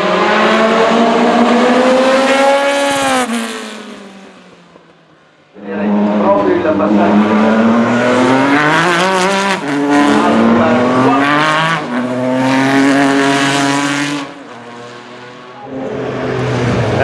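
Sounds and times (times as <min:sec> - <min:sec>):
race car engine accelerating: 0:00.0 - 0:04.6, 0:05.6 - 0:17.0.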